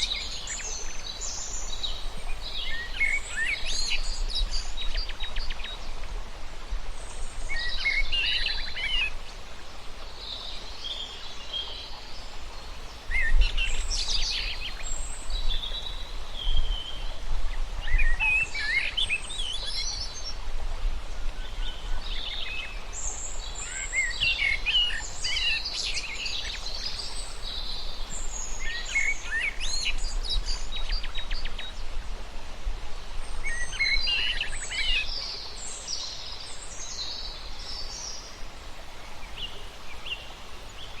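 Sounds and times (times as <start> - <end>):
songbirds singing: 0.0 - 6.1, 7.0 - 17.2, 21.3 - 31.9, 33.2 - 41.0.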